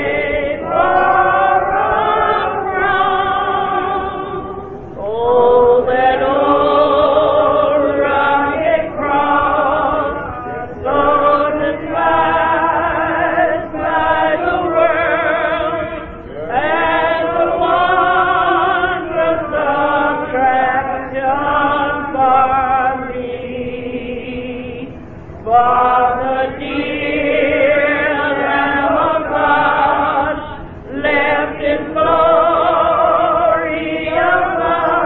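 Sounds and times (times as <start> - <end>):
gospel choir singing: 0.0 - 35.0.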